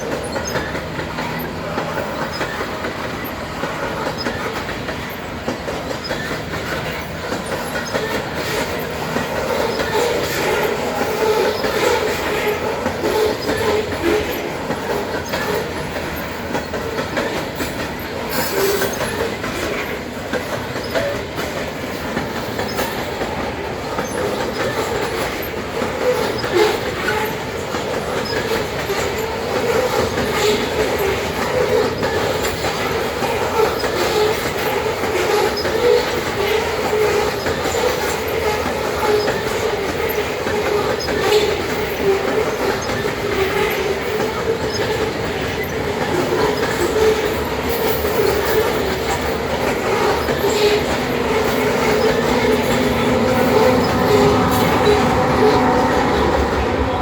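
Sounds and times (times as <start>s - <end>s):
train wheels rumbling on rails: 0.0s - 57.0s
wheels clacking over rail joints: 0.0s - 57.0s.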